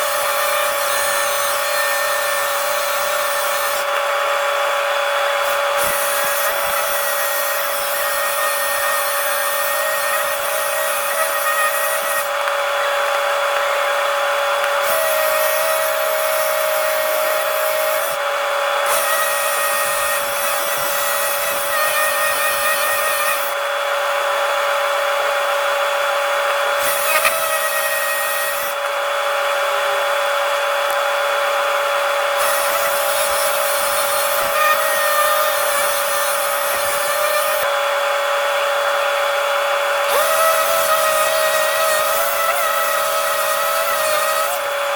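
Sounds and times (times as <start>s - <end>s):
power tool whining: 0.0s - 44.9s.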